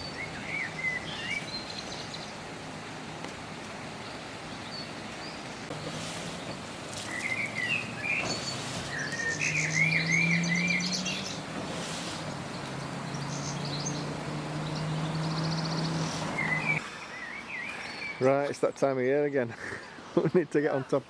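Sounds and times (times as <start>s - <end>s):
songbirds warbling and trilling: 0.0s - 21.0s.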